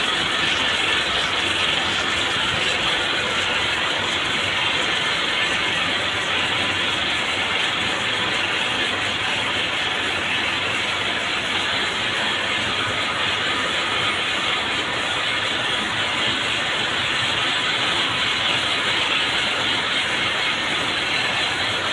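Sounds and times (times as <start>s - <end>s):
machines hissing and rattling: 0.0s - 21.9s.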